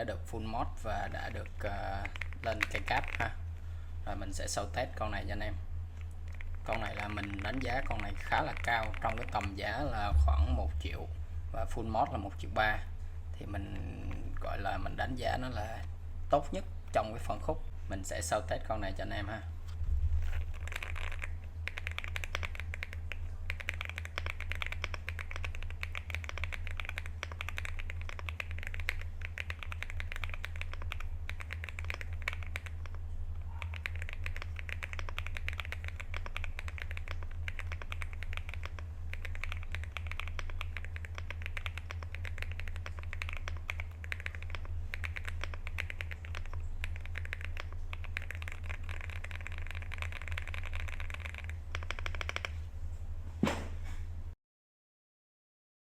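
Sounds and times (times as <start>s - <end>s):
low hum: 0.0s - 54.4s.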